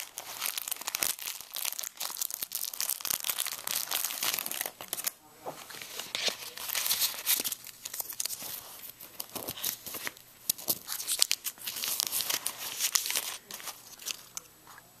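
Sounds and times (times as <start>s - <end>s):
gum wrapper crinkling and tearing: 0.0s - 5.2s, 6.1s - 14.5s.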